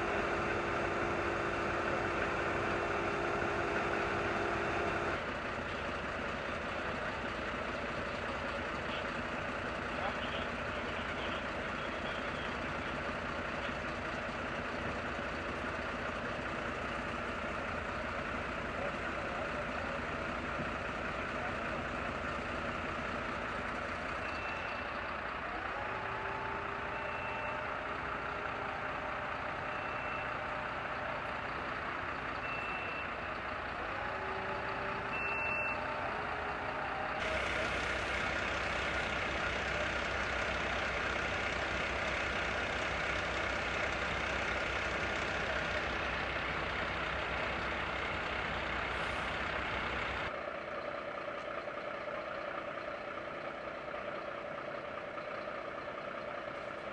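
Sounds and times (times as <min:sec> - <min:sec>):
heavy vehicle engine revving: 0:00.0 - 0:50.4.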